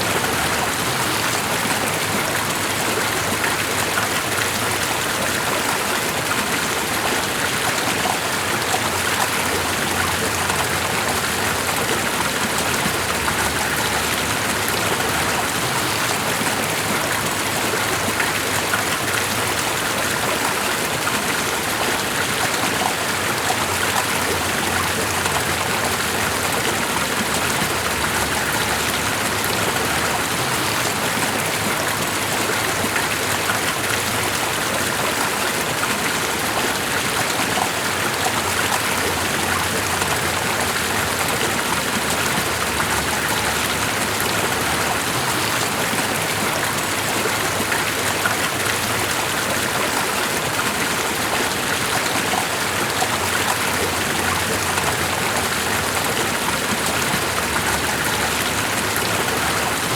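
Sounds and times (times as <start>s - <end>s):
rushing water with fine patter: 0.0s - 59.9s.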